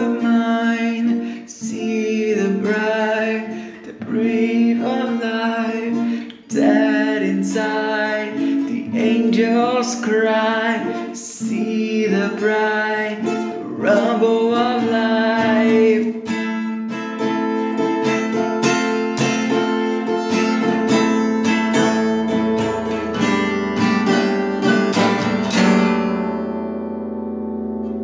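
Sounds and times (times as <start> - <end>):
guitar strumming: 0.0 - 28.0.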